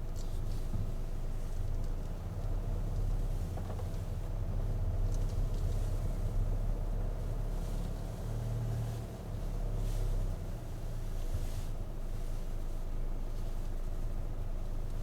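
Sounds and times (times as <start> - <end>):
car driving low rumble: 0.0 - 15.0.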